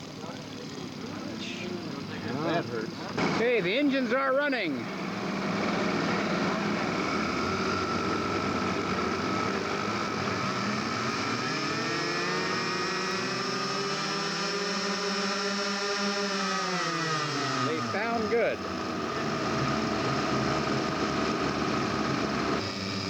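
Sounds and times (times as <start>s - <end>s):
model aircraft engines buzzing: 0.0s - 23.0s.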